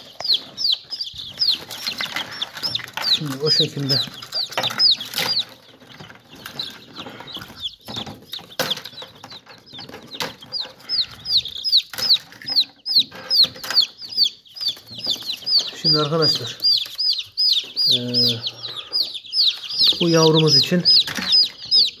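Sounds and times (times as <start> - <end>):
plastic trays clicking and knocking: 0.0 - 18.3, 19.0 - 22.0
chicks peeping: 0.0 - 22.0.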